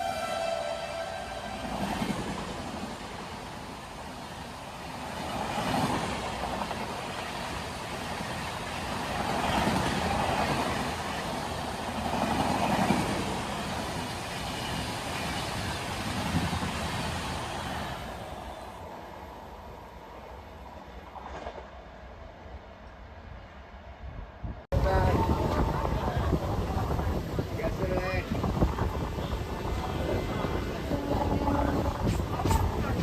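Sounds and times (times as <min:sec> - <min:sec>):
train wheels rumbling on rail: 0:00.0 - 0:19.1, 0:24.3 - 0:33.0.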